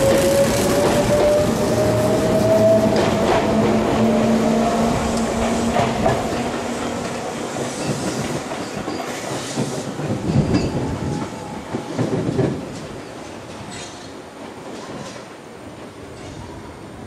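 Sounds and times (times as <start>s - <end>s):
train wheels clacking on rails: 0.0s - 16.5s.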